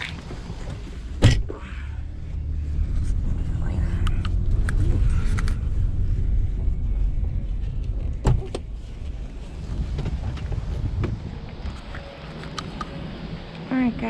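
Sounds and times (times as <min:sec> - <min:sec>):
car engine running: 0:00.0 - 0:14.0
road rumble: 0:00.0 - 0:14.0.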